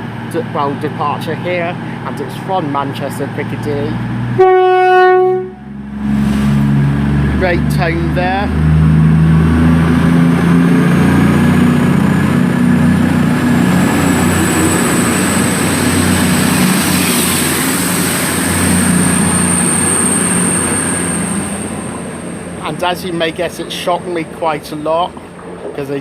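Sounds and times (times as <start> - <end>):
diesel train engine drone: 0.0 - 26.0
high engine whine: 0.0 - 26.0.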